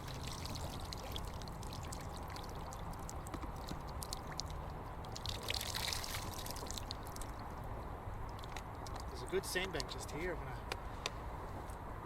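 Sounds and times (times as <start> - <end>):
water dripping and trickling: 0.0 - 10.3.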